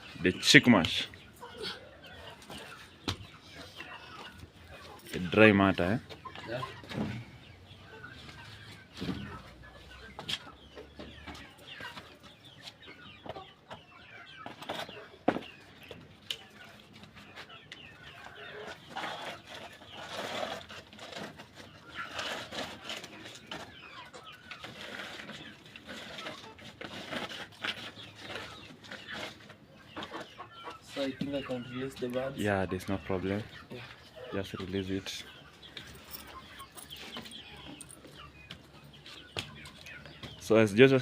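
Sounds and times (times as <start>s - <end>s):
chicks cheeping and clucking: 0.0s - 41.0s.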